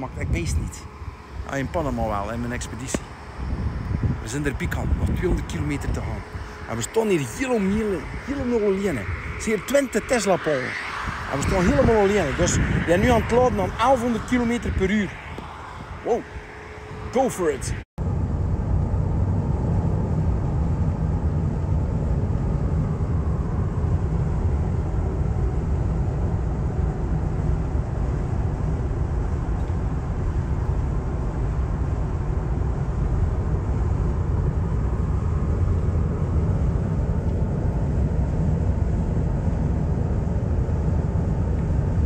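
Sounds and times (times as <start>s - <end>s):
wind noise: 0.0s - 42.0s.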